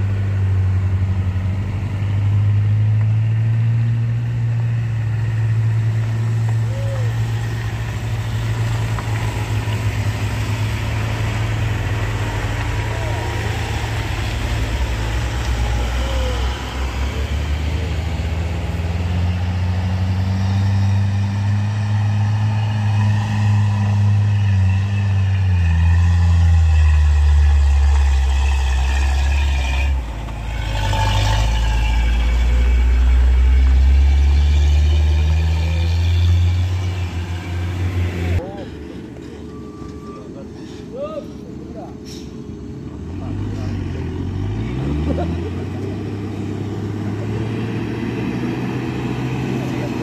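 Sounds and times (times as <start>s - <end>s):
pickup truck passing close: 0.0s - 50.0s
truck engines labouring uphill: 0.0s - 50.0s.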